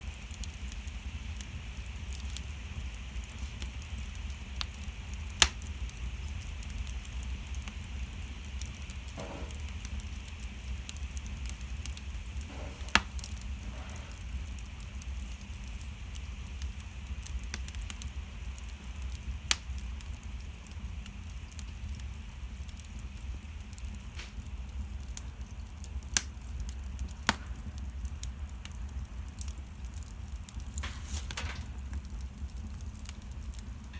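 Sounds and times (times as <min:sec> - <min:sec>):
wood fire crackling: 0:00.0 - 0:33.9
fire pops: 0:00.1 - 0:33.9.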